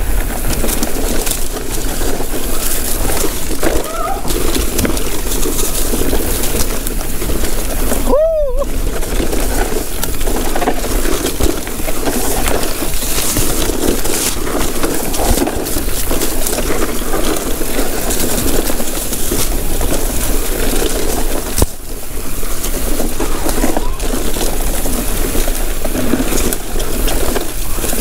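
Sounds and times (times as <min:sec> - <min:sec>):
bike rattling: 0:00.0 - 0:28.0
tyres crunching over stones: 0:00.0 - 0:28.0.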